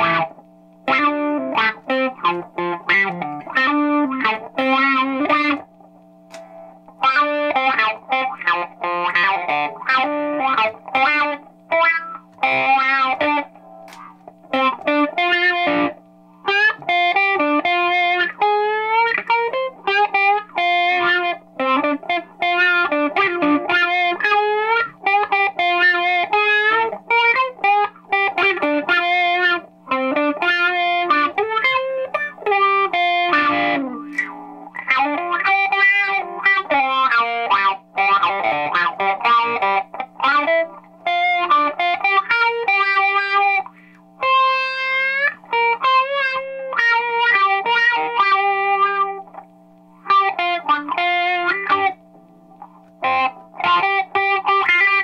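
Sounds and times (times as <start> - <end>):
overdriven electric guitar lead: 0.0 - 55.0.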